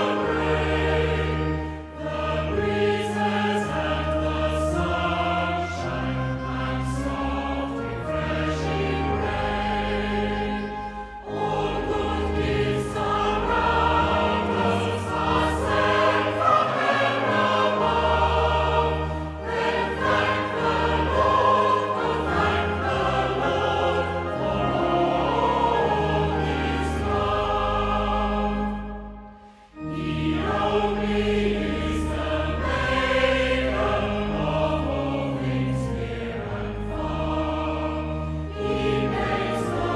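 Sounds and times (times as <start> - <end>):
choir singing sustained chords: 0.0 - 39.9.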